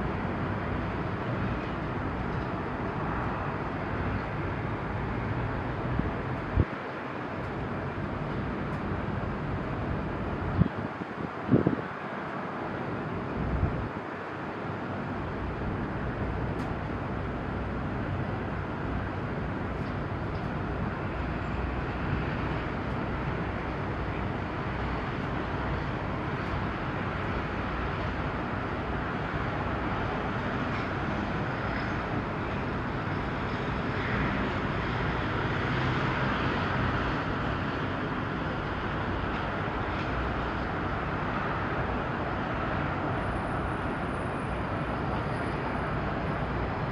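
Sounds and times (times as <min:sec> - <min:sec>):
outdoor noise: 0:00.0 - 0:46.9.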